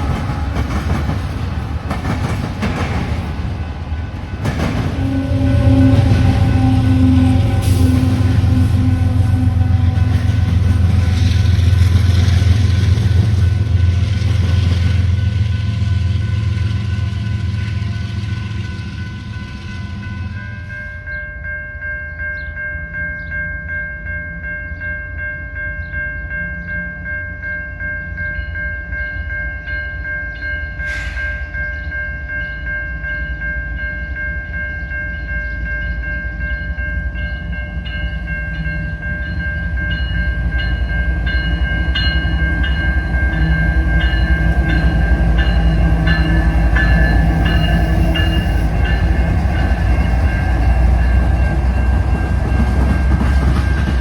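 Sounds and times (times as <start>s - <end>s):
train rumble: 0.0s - 22.5s, 25.1s - 54.0s.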